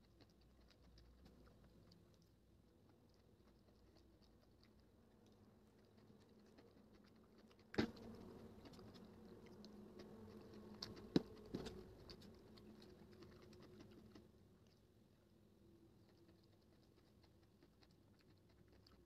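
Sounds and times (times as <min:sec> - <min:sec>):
soft clicks of eating: 0:00.0 - 0:19.0.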